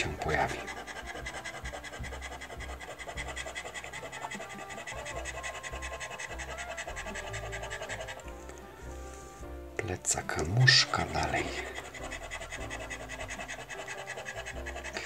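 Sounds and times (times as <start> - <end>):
scratcher rasping on scratch card: 0.0 - 9.4, 10.5 - 15.0.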